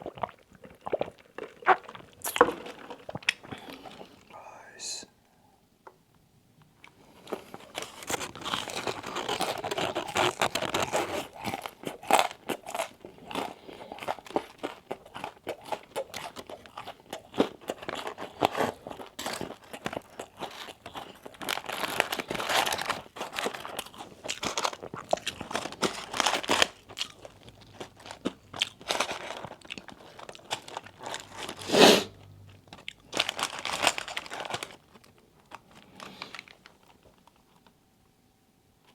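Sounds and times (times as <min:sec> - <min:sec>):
crunching and chewing fried chicken: 0:00.0 - 0:04.3, 0:06.8 - 0:37.8.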